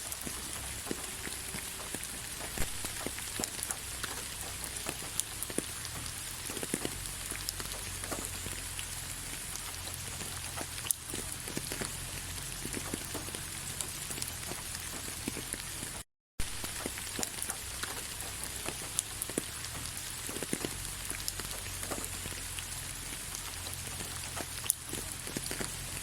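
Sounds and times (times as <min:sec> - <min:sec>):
soft steady rain: 0:00.0 - 0:26.0.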